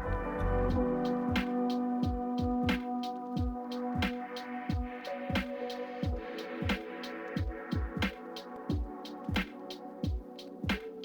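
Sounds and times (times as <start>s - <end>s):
held synth chords: 0.0s - 11.0s.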